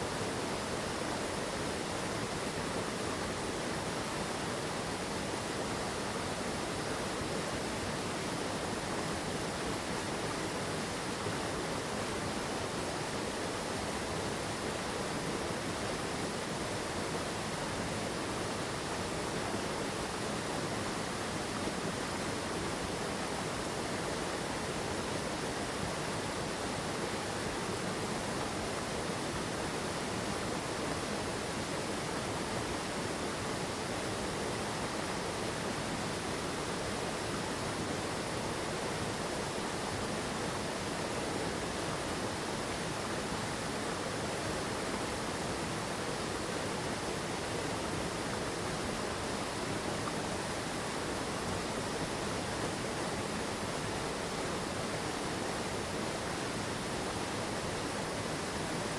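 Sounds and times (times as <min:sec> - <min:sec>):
mountain stream rushing over rocks: 0:00.0 - 0:58.9.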